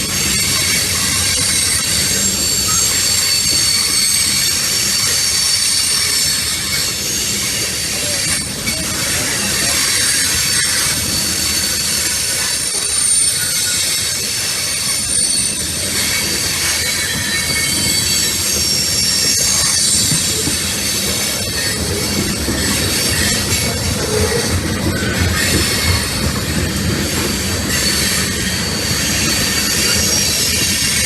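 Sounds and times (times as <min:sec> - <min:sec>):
train rumble: 0:00.0 - 0:31.0
train wheels squealing: 0:00.0 - 0:31.0
wheels clicking on rail joints: 0:00.0 - 0:31.0.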